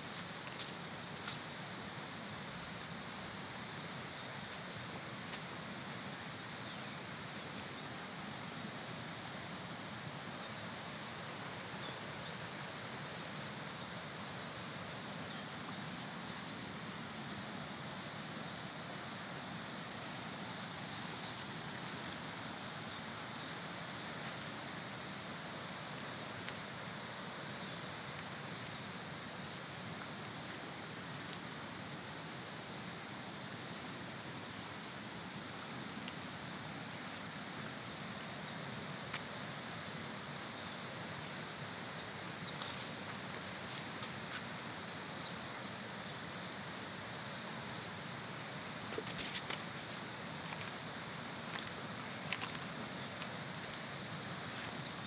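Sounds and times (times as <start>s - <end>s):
constant noisy hiss: 0.0s - 55.0s
high insect drone: 0.0s - 55.0s.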